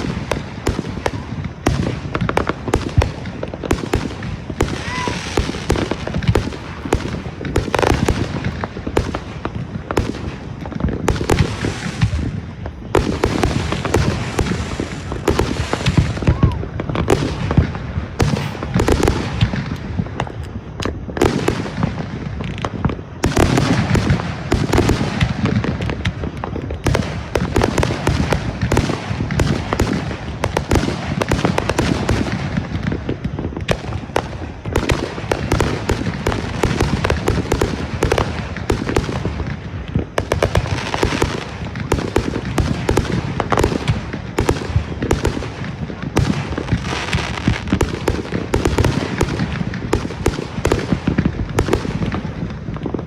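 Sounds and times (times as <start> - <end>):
fireworks booms: 0.0 - 53.0
fireworks crackling and popping: 0.0 - 53.0.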